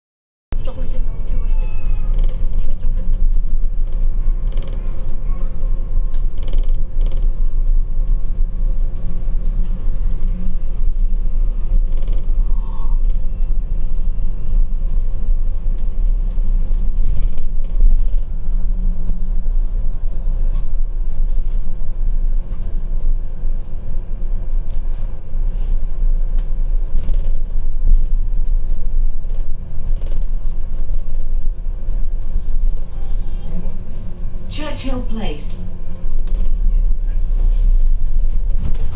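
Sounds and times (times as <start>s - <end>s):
bus engine and road rumble: 0.5s - 38.9s.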